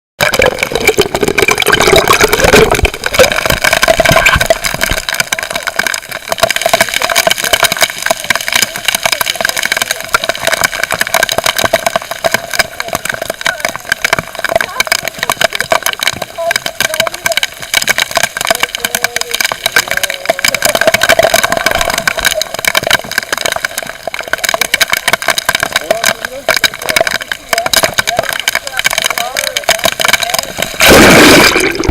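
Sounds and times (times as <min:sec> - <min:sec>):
rain on water underwater: 0:00.2 - 0:31.9.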